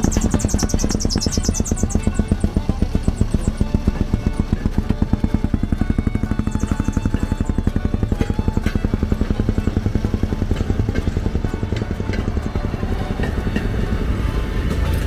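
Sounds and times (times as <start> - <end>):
small gasoline engine putt-putt: 0.0 - 15.0.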